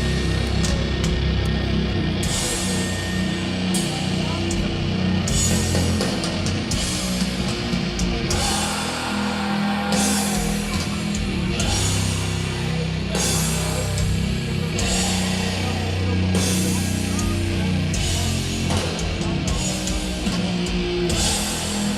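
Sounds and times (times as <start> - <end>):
doom metal band playing live: 0.0 - 21.9.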